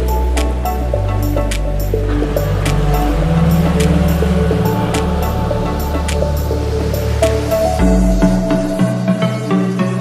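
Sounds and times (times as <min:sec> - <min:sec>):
electronic music with synth and beat: 0:00.0 - 0:10.0.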